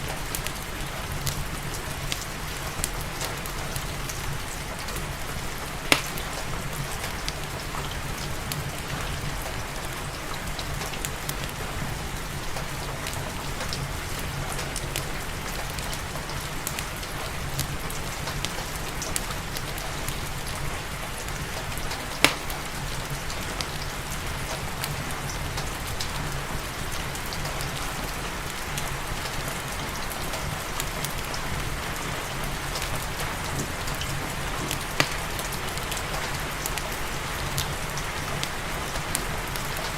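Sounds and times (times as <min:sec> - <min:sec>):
log fire crackling: 0:00.0 - 0:39.9
steady rain hiss: 0:00.0 - 0:39.9.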